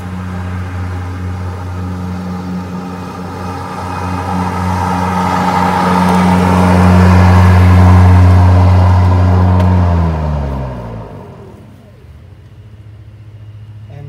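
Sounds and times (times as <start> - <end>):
electric lawn mower running: 0.0 - 13.5.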